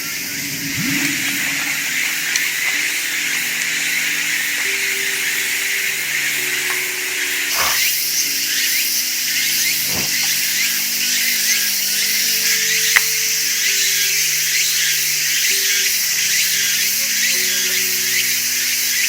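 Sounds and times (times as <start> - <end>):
insect chirps: 0.0 - 19.0
insects buzzing: 0.0 - 19.0.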